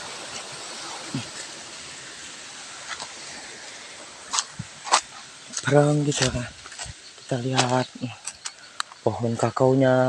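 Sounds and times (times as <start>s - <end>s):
water rushing in shallow stream: 0.0s - 10.0s.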